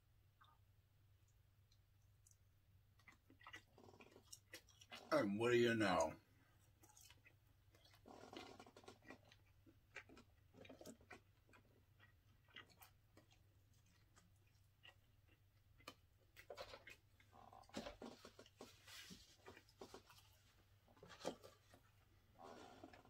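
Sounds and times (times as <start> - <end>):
person chewing and smacking: 1.2 - 5.1, 6.5 - 21.9.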